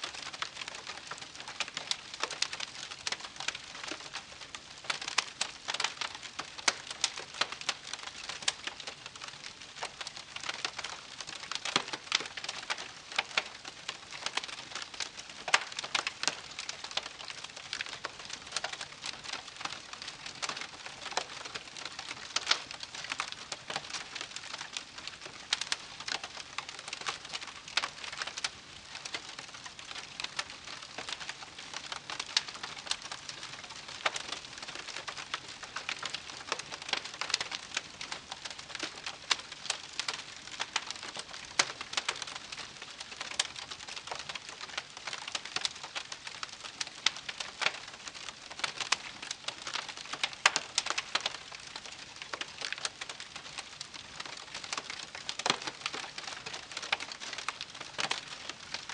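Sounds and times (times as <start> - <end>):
campfire crackling: 0.1 - 58.9.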